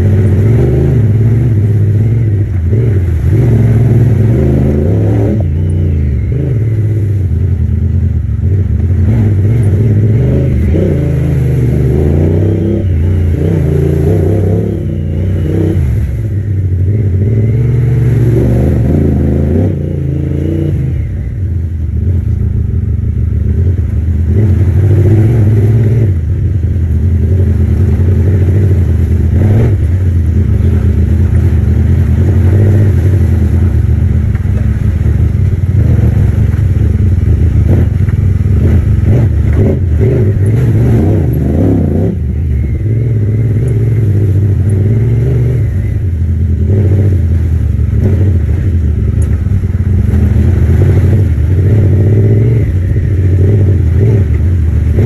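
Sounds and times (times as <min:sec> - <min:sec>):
utility vehicle engine revving: 0:00.0 - 0:55.0.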